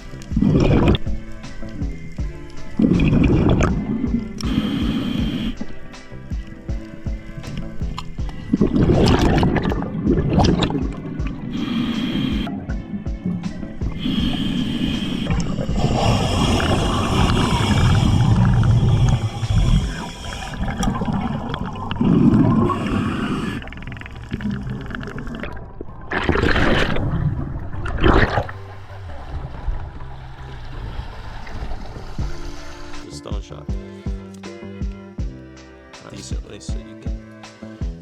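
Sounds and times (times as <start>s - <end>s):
exhaled bubbles rushing: 0.0s - 33.1s
diver breathing through regulator: 0.0s - 36.0s.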